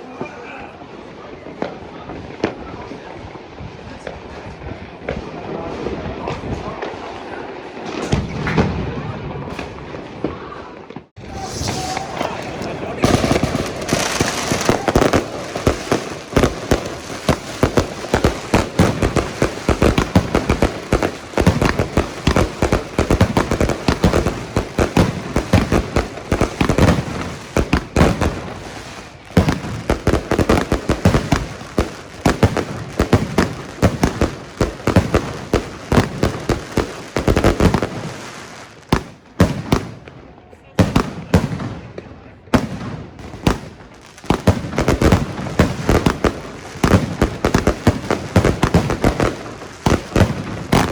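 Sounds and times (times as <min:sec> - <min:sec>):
fireworks and firecrackers banging: 0:00.0 - 0:50.9.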